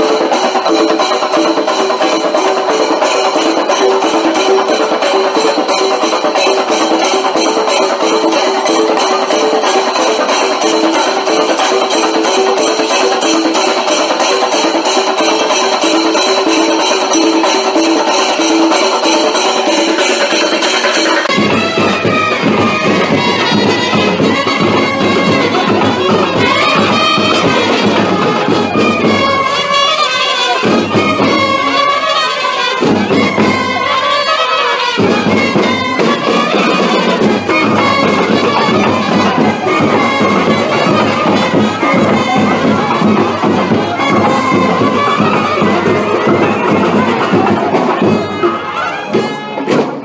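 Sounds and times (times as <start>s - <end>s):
loud instrumental music: 0.0s - 50.0s.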